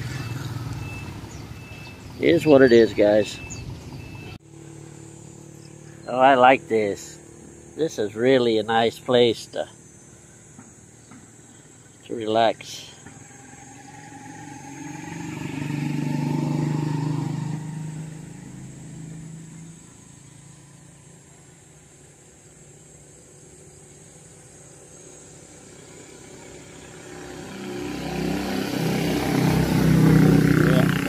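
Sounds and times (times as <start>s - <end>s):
motor vehicle passing: 0.0s - 31.0s.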